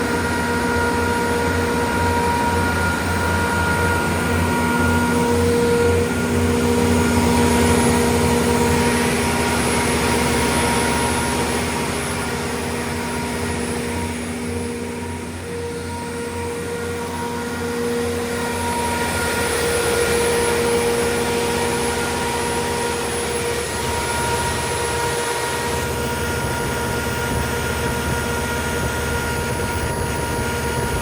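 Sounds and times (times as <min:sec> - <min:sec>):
diesel generator humming: 0:00.0 - 0:31.0
whining tones: 0:00.0 - 0:31.0.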